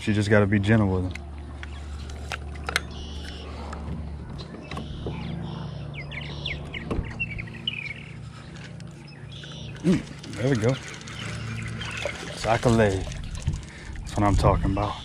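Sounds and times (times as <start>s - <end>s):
steady low hum: 0.0s - 15.0s
birds chirping: 0.6s - 15.0s.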